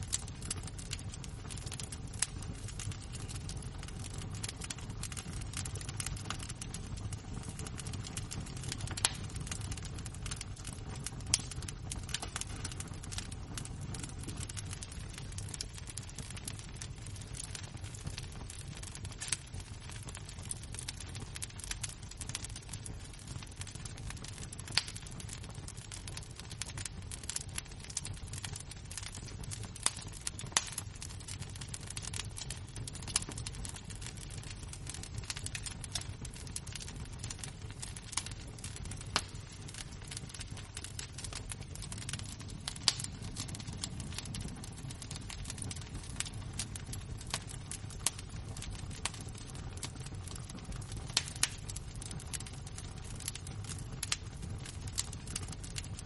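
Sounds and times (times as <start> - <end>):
embers crackling: 0.0 - 52.3, 53.1 - 56.0.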